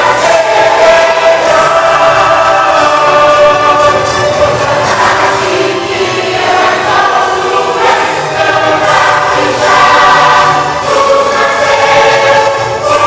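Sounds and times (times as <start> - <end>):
church choir singing: 0.0 - 13.0
instrumental accompaniment: 0.0 - 13.0.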